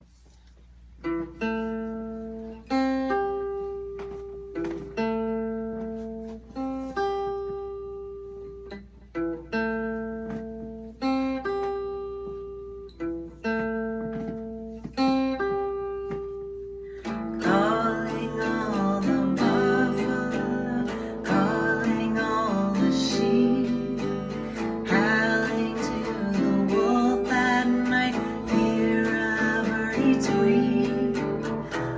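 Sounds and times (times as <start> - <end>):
acoustic guitar picking: 1.0 - 31.9.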